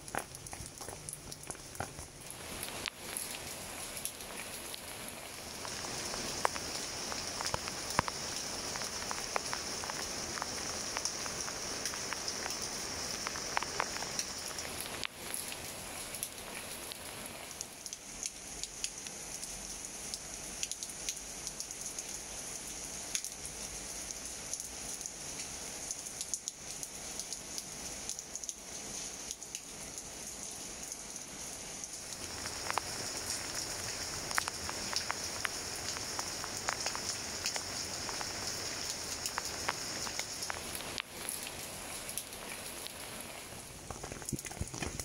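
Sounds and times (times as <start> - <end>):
rain falling on leaves: 0.0 - 45.0.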